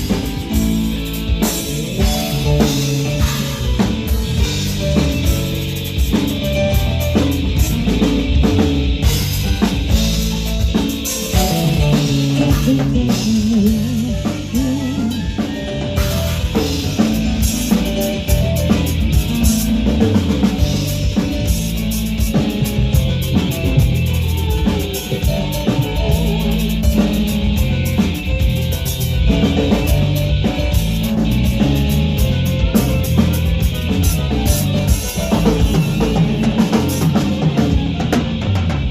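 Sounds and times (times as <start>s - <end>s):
bass and guitar notes: 0.0s - 38.9s
drum kit beat: 0.0s - 38.9s.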